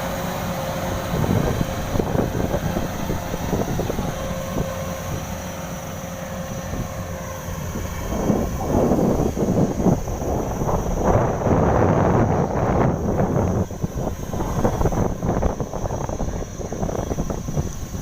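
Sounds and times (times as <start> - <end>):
combine harvester running: 0.0 - 18.0
wind buffeting microphone: 0.0 - 18.0.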